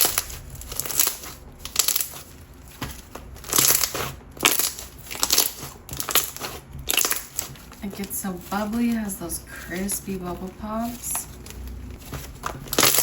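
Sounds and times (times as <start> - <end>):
slime squished by hand: 0.0 - 8.9, 10.5 - 13.0.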